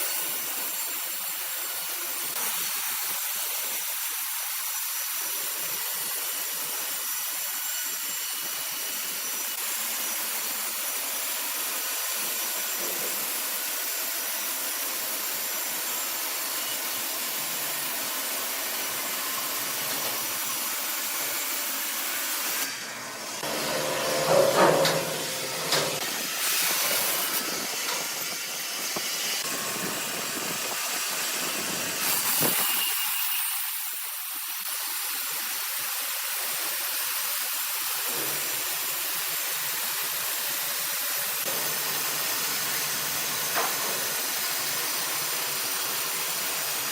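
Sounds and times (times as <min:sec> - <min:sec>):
saw cutting through log: 0:00.0 - 0:46.9.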